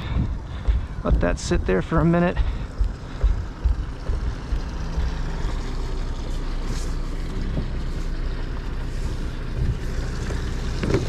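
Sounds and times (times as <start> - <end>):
boat engines idling: 0.0 - 11.0.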